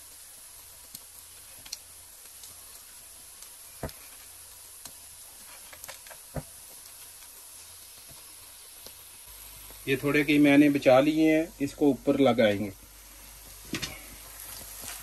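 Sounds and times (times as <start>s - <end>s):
food hissing in a pan: 0.0s - 15.0s.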